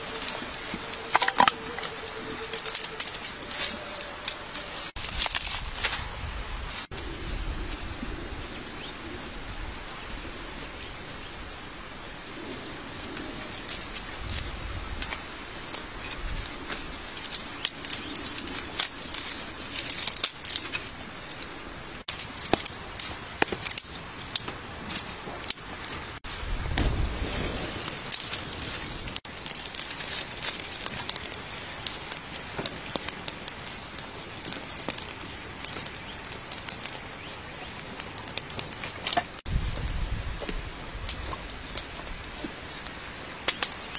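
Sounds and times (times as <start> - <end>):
twigs snapping and crackling: 0.0 - 7.0, 12.9 - 43.9
dry leaves rustling: 0.0 - 8.9, 12.9 - 43.9.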